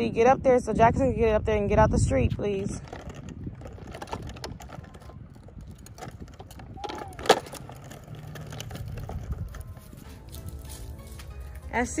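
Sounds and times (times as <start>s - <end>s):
plastic wheels rumbling on concrete: 0.9s - 12.0s.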